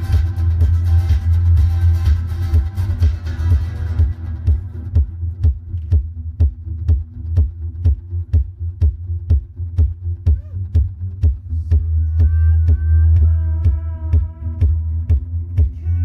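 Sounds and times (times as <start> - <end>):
click-like beat: 0.0 - 16.0
low bass drone: 0.0 - 16.0.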